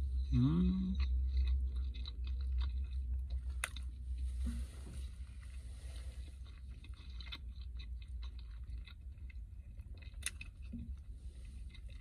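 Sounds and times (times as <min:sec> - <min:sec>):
steady low rumble: 0:00.0 - 0:12.0
chewing with wet smacks: 0:00.6 - 0:12.0.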